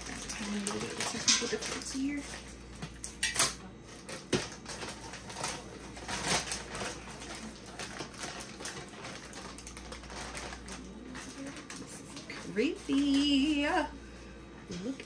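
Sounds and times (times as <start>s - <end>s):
food clicking and rustling: 0.0s - 13.6s.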